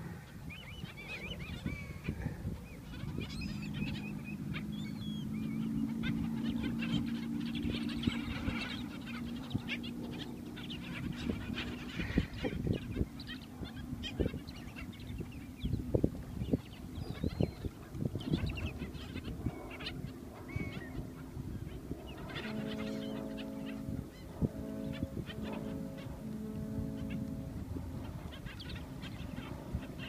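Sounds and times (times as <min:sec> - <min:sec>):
birds chirping and calling: 0:00.0 - 0:30.0
steady low hum: 0:00.0 - 0:30.0.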